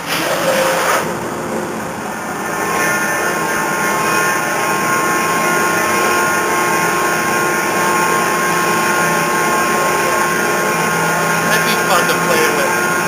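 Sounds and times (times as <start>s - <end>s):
machine running with a whine: 0.0s - 13.0s.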